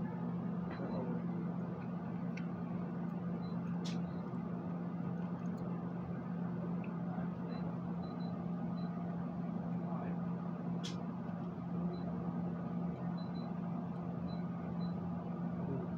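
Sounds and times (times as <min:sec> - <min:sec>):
low mechanical hum: 0:00.0 - 0:15.9.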